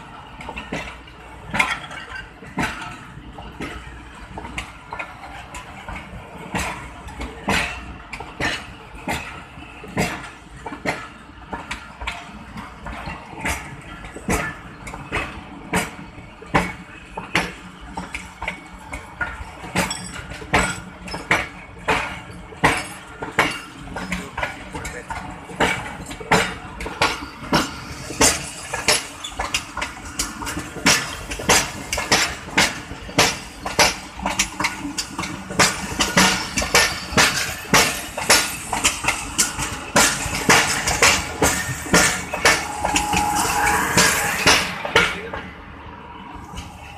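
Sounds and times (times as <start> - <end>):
train rumble: 0.0 - 46.9
train wheels click-clacking: 0.0 - 46.9.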